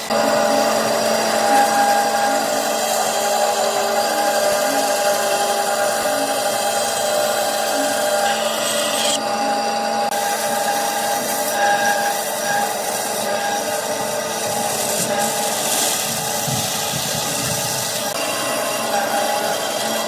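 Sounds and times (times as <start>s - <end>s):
power tool on wood: 0.0s - 20.0s.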